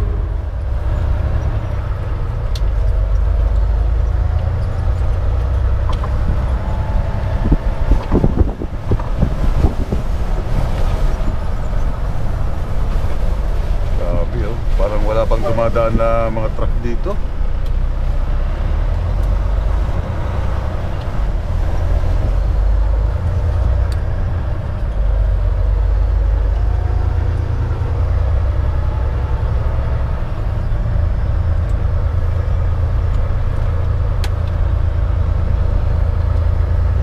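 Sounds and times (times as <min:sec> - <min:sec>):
road noise: 0:00.0 - 0:37.0
truck engine rumble: 0:00.0 - 0:37.0.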